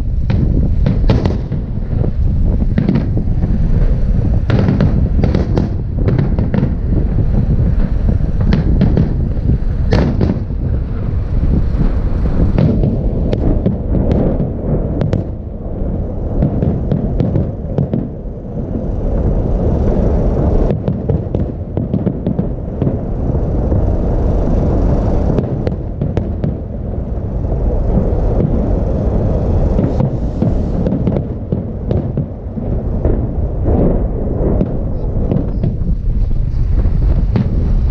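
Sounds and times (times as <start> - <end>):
continuous low rumble: 0.0 - 37.9
fireworks bursting with bangs: 0.0 - 37.9.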